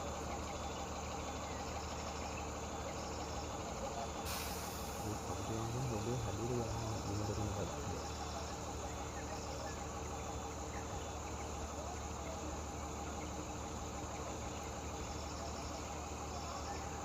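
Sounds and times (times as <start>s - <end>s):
insects chirping: 0.0s - 17.0s
low engine hum: 0.0s - 17.0s.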